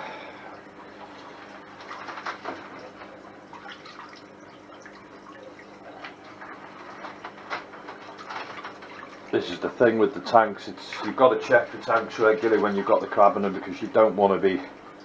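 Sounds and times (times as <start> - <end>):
tank pump humming: 0.0 - 15.0.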